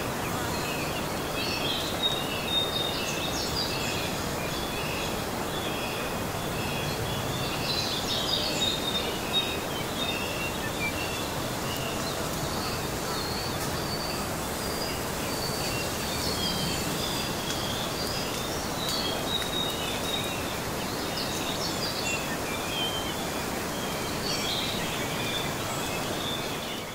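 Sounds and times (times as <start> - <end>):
steady background hiss: 0.0 - 26.9
small birds chirping: 0.1 - 26.9.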